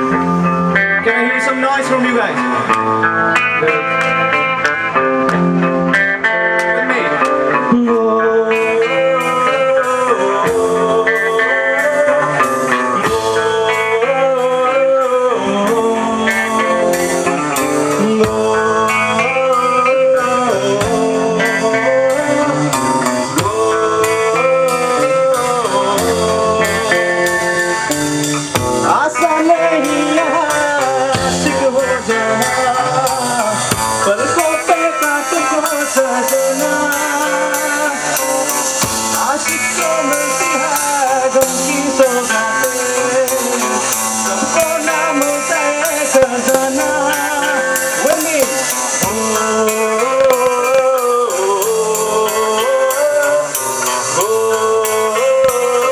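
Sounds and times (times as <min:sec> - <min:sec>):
drum kit: 0:00.0 - 0:55.9
guitar: 0:00.0 - 0:55.9
man singing: 0:00.0 - 0:55.9.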